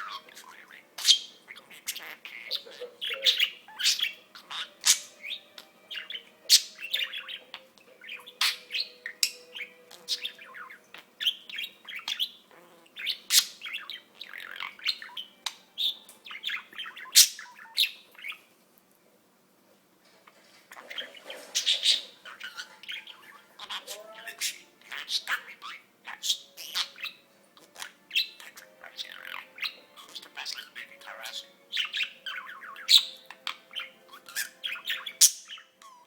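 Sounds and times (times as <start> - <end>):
budgerigar chattering: 0.0 - 18.4, 20.8 - 36.0.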